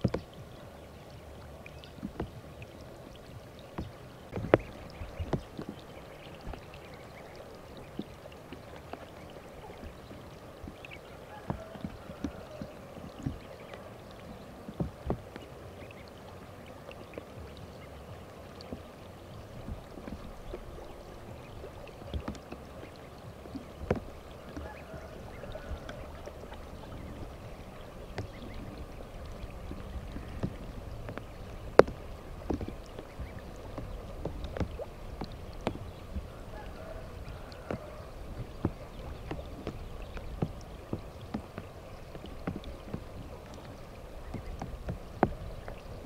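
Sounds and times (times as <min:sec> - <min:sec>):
water splashing and dripping: 0:00.0 - 0:46.0.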